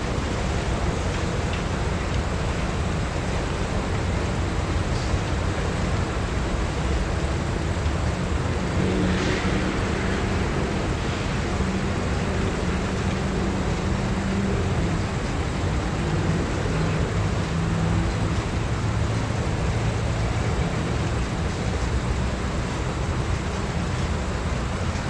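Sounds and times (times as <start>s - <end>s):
continuous rumbling noise: 0.0s - 25.0s
diesel locomotive engines droning: 0.0s - 25.0s.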